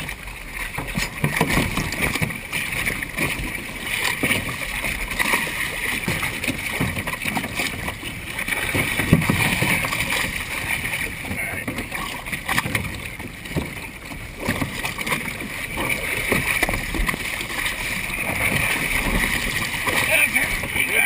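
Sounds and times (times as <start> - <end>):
kayak knocking against hull: 0.0 - 21.0
water sloshing and splashing: 0.0 - 21.0.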